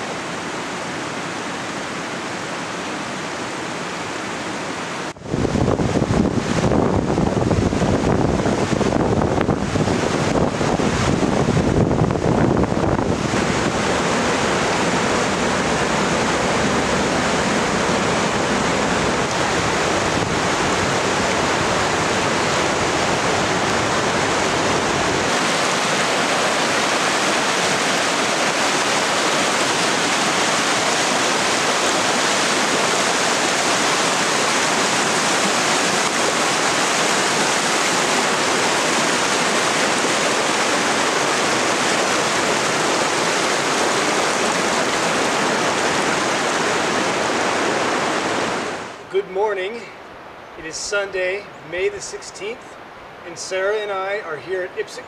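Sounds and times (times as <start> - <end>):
rushing water of waterfall: 0.0 - 55.0.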